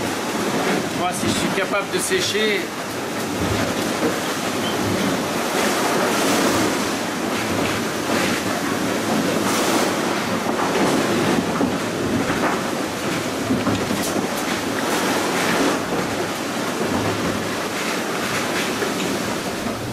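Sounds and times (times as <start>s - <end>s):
water and wind rushing: 0.0s - 19.9s.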